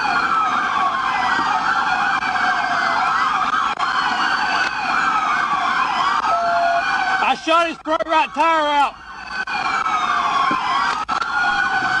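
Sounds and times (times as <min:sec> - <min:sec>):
police sirens wailing: 0:00.0 - 0:12.0.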